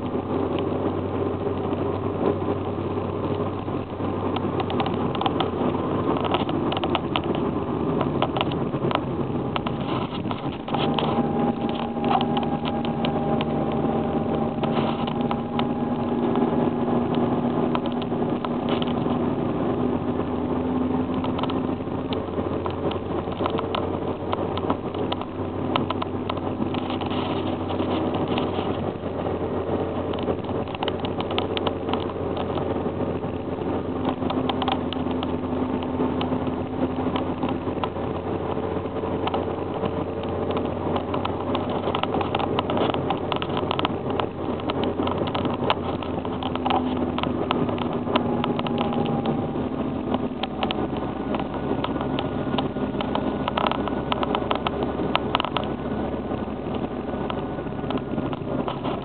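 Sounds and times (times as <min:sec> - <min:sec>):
car engine driving: 0:00.0 - 0:59.0
road noise: 0:00.0 - 0:59.0
small ticks and rattles: 0:02.6 - 0:19.2, 0:21.1 - 0:59.0.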